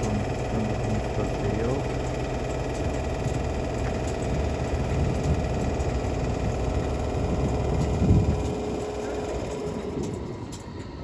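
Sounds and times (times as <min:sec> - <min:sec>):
train low machine hum: 0:00.0 - 0:11.0.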